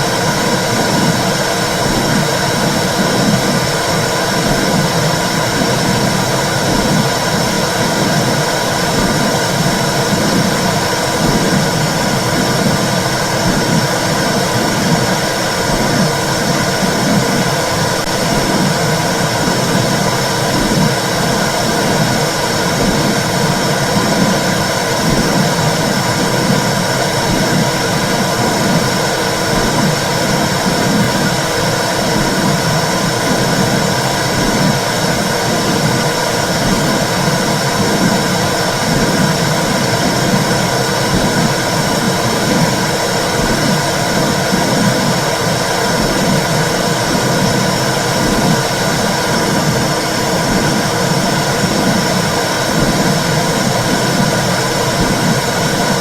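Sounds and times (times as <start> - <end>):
low pulsing: 0.0 - 56.0
steady whooshing noise: 0.0 - 56.0.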